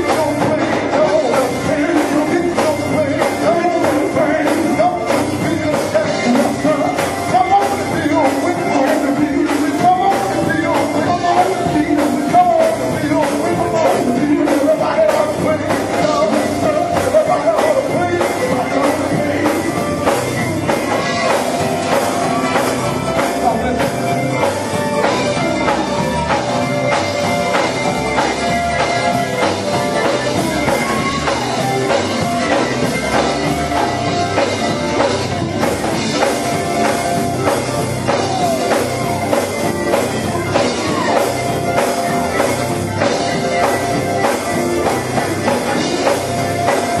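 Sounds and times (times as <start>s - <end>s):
drums playing a steady beat: 0.0s - 47.0s
electric guitar: 0.0s - 47.0s
keyboard: 0.0s - 47.0s.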